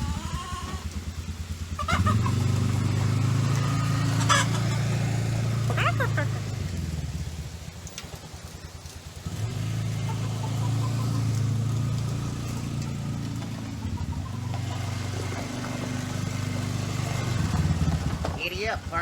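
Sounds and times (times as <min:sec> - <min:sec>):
atv engine chugging: 0:00.0 - 0:19.0.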